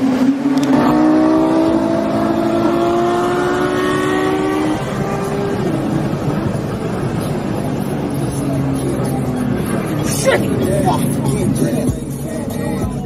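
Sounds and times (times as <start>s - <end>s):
road noise: 0.0s - 13.0s
sports car engine accelerating: 0.0s - 13.0s.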